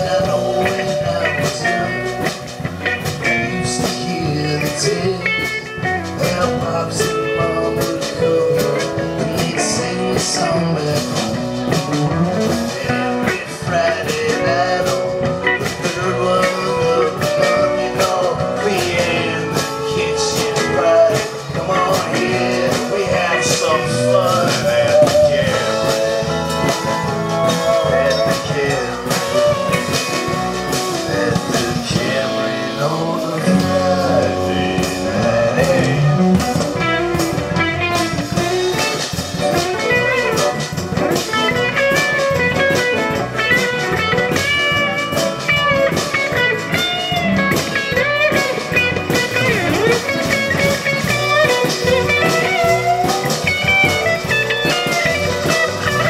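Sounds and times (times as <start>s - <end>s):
drums: 0.0s - 56.0s
electric guitar lead: 0.0s - 56.0s
live blues-rock band: 0.0s - 56.0s.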